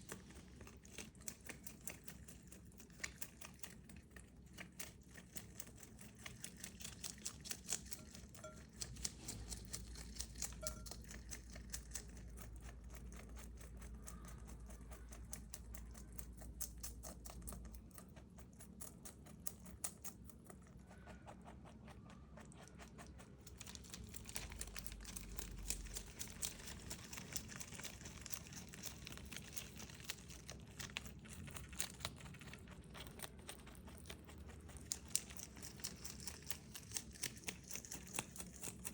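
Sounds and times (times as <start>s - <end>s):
rabbit chewing leaves crunching: 0.0s - 38.9s.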